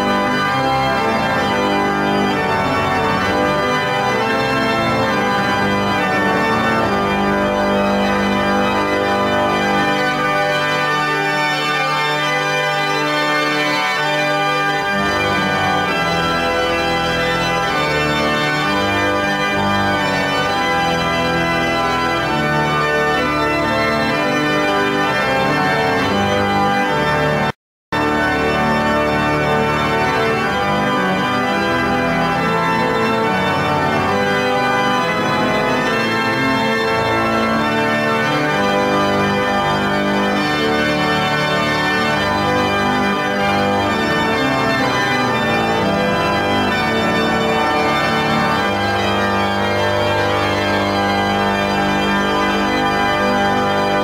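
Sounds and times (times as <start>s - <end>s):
church pipe organ chords: 0.0s - 54.0s.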